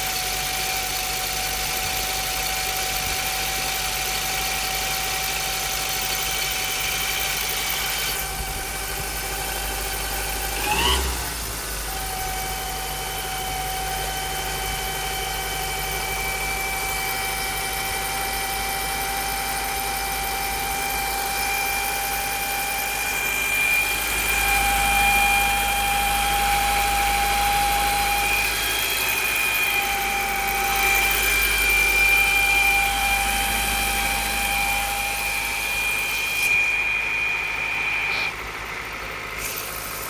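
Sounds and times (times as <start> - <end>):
car engine running: 0.0 - 40.0
high-pitched whine: 0.1 - 39.9.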